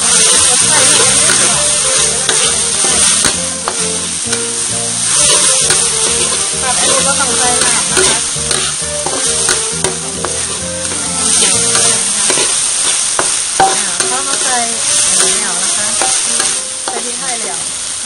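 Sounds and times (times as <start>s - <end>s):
metal spatula scraping a wok: 0.0s - 17.8s
meat sizzling in a wok: 0.0s - 18.0s.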